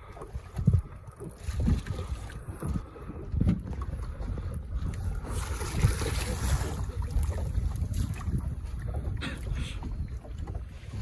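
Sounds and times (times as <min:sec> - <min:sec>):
water lapping at boat: 0:00.0 - 0:11.0
wind buffeting microphone: 0:00.0 - 0:11.0.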